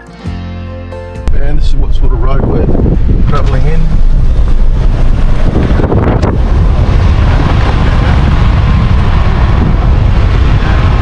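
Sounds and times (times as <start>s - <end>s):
road and tyre rumble: 1.2s - 11.0s
wind buffeting microphone: 1.3s - 11.0s.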